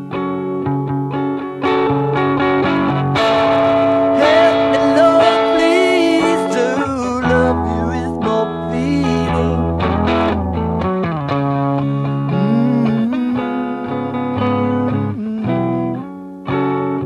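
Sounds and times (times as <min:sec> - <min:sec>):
guitar-led rock music: 0:00.0 - 0:17.0.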